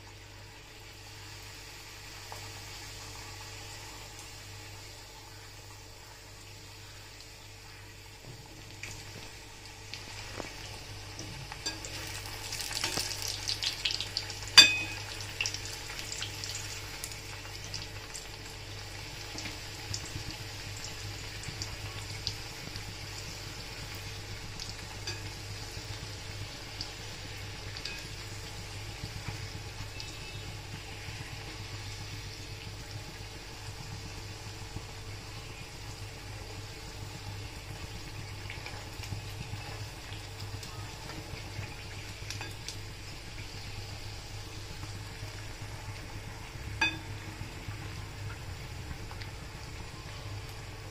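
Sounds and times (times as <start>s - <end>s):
dough deep-frying in hot oil: 0.0s - 50.9s.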